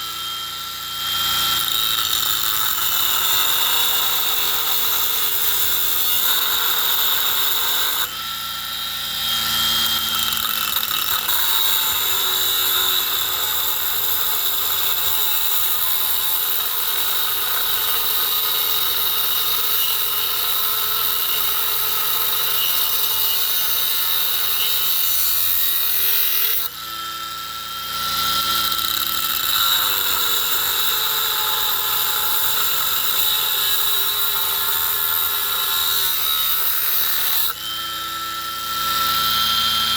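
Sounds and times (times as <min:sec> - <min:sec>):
power tool grinding steel: 0:00.0 - 0:39.9.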